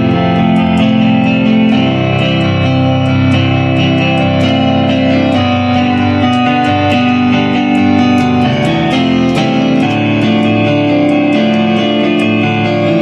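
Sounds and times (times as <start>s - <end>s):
plucked string instrument music: 0.0s - 13.0s.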